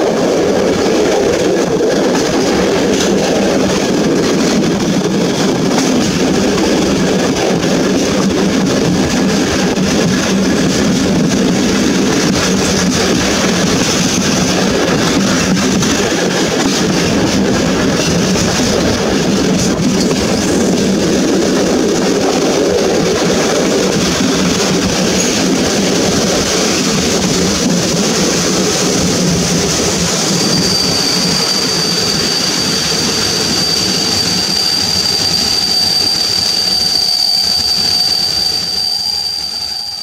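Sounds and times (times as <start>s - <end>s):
train wheels rumbling: 0.0s - 40.0s
high-pitched wheel squeal: 4.6s - 40.0s.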